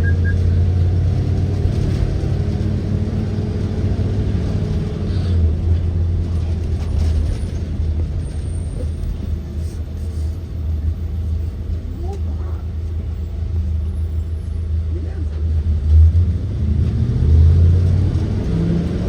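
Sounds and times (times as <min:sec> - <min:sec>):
bus engine rumble: 0:00.0 - 0:19.0
drivetrain and road rumble: 0:00.0 - 0:19.0.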